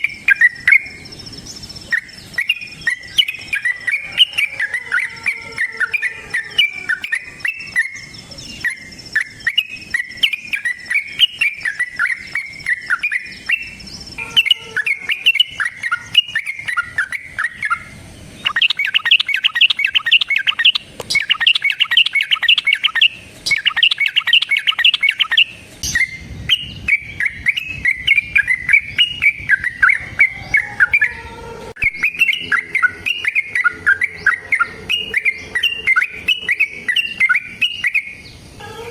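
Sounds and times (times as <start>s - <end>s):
bulbul chattering song: 0.0s - 38.7s.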